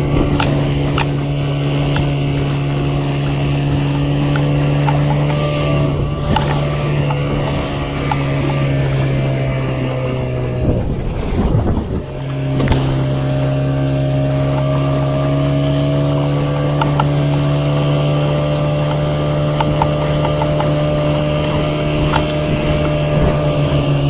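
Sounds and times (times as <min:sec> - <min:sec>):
motorboat engine humming: 0:00.0 - 0:24.0.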